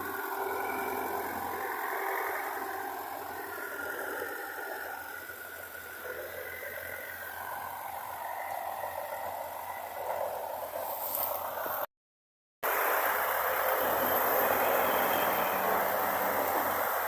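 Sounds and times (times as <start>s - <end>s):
farm machine engine running: 0.0s - 11.8s, 12.6s - 17.0s.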